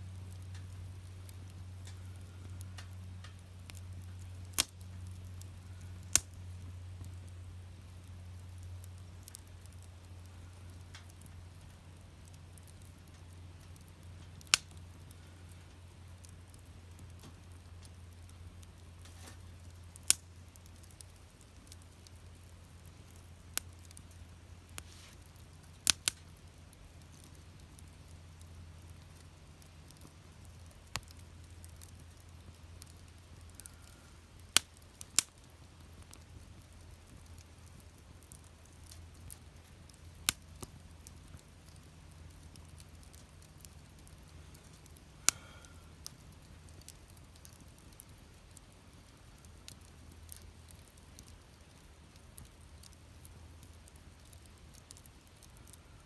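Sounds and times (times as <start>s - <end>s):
fire crackling pops: 0.0s - 56.0s
low steady hum: 0.0s - 56.0s.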